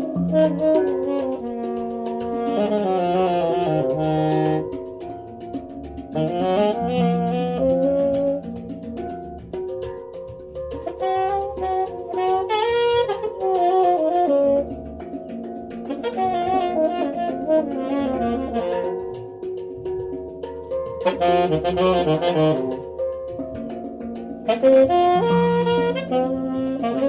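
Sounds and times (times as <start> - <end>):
saxophone improvising: 0.0 - 9.7, 10.7 - 20.1, 21.0 - 23.6, 24.4 - 27.0
hang drum ringing notes: 0.0 - 27.0.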